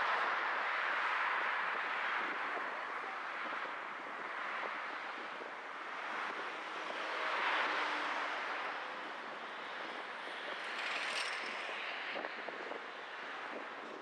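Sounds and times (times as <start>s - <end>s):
tyres and traffic rushing: 0.0s - 14.0s.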